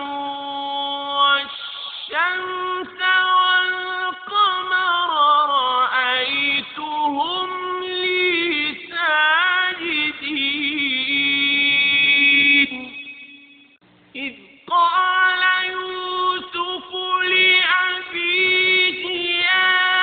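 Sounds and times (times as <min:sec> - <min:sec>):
person chanting: 0:00.0 - 0:13.3, 0:14.2 - 0:20.0.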